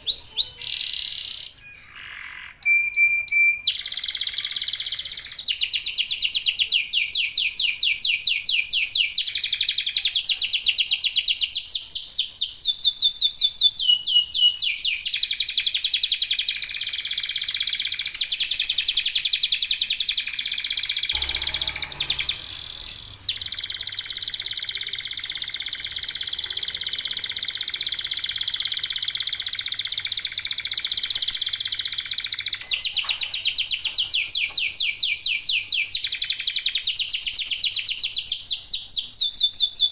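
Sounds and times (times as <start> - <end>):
canaries singing in fast trills: 0.0 - 39.9.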